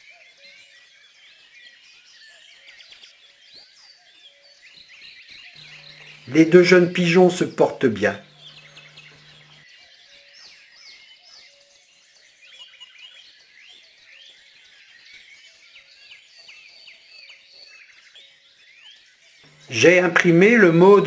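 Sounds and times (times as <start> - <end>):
songbirds chirping: 1.2 - 21.0.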